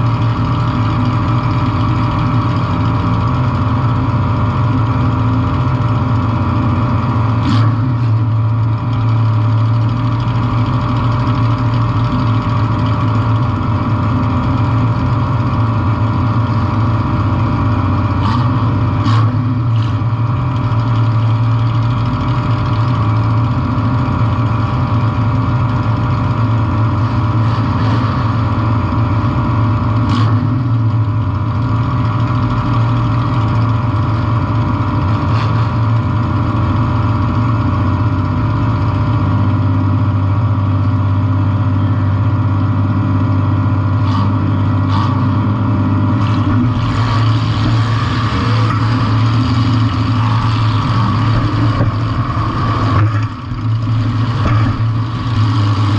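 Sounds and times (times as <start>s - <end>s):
car engine running loud: 0.0s - 55.9s.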